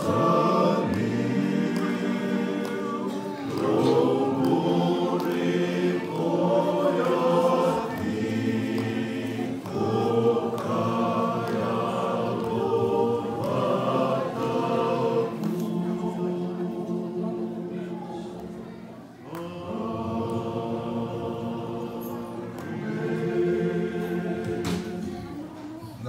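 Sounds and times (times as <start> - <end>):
group singing unaccompanied: 0.0 - 25.8.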